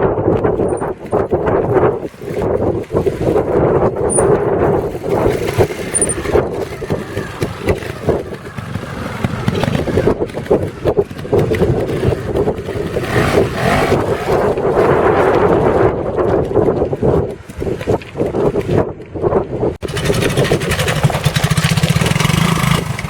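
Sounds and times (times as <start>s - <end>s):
wind buffeting microphone: 0.0s - 23.0s
motorcycle engine revving: 0.4s - 18.9s, 19.8s - 23.0s.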